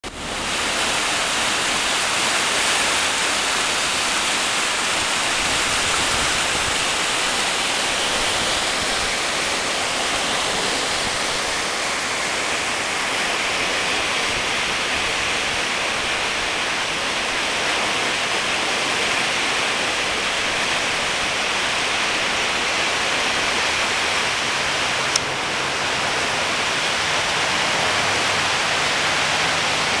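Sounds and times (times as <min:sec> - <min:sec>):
creek rushing: 0:00.0 - 0:30.0.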